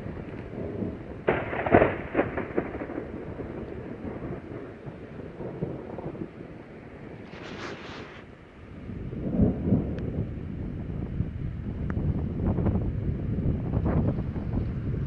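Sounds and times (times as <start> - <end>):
thunder crash and rumble: 0.0 - 7.6, 8.8 - 15.0.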